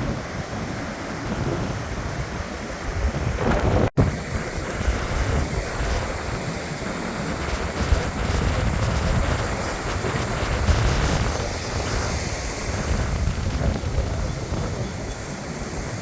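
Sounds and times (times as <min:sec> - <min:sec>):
ocean surf washing on beach: 0:00.0 - 0:16.0
wind buffeting microphone: 0:00.0 - 0:16.0.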